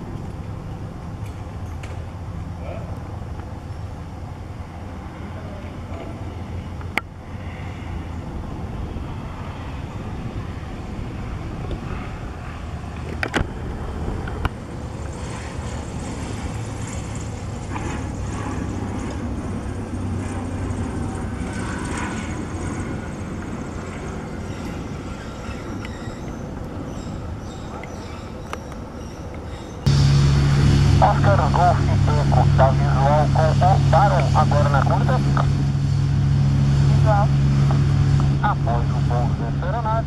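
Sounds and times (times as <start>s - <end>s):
steady low rumble: 0.0s - 25.1s, 29.8s - 40.0s
propeller plane engine: 0.0s - 40.0s.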